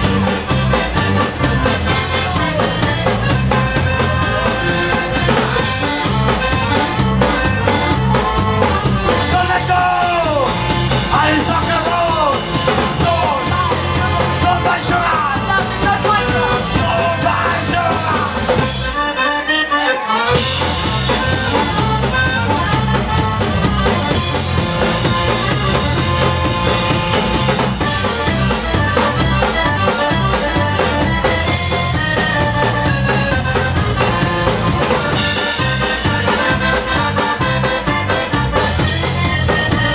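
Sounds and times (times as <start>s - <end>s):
upbeat band instrumental: 0.0s - 39.9s.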